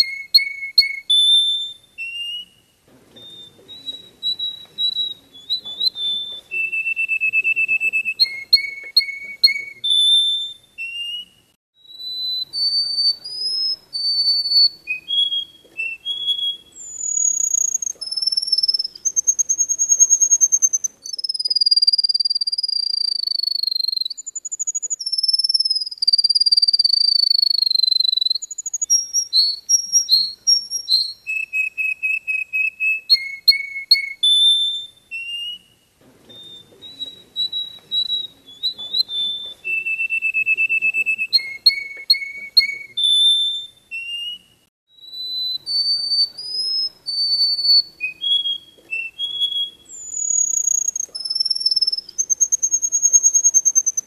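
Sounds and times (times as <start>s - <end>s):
finch singing: 0.0s - 54.0s.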